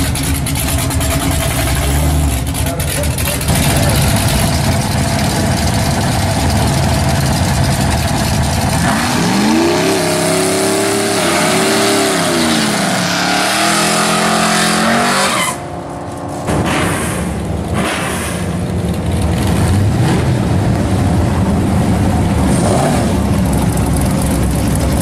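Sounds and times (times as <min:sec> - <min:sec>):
rough engine rumble: 0:00.0 - 0:14.8, 0:15.5 - 0:25.0.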